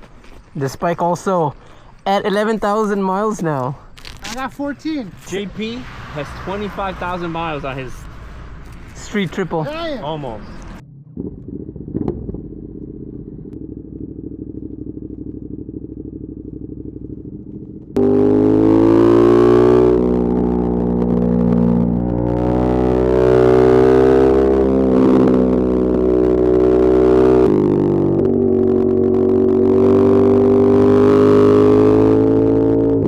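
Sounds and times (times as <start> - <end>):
motorcycle engine revving: 4.0 - 33.0.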